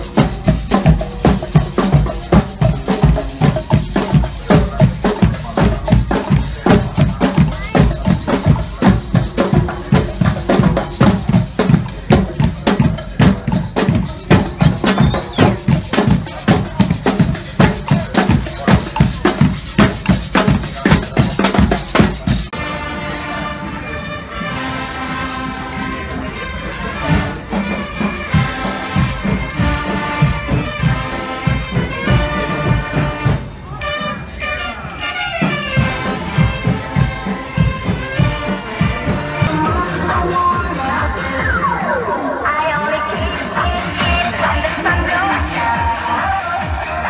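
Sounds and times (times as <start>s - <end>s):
marching band drums and brass: 0.0s - 47.0s
melodic band music: 0.0s - 47.0s.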